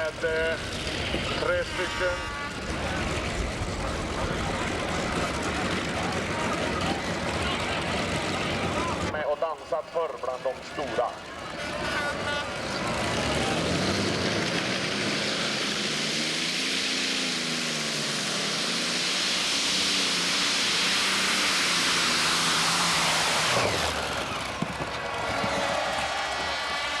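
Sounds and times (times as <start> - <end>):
tractor engine howling: 0.0 - 27.0.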